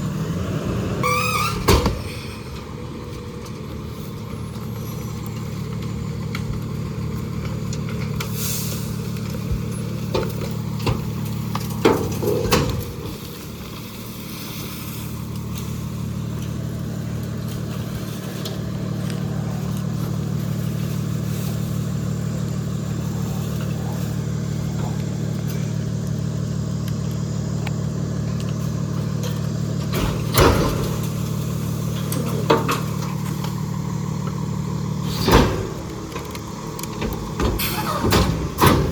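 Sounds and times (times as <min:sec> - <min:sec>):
garbage truck engine running: 0:00.0 - 0:38.9.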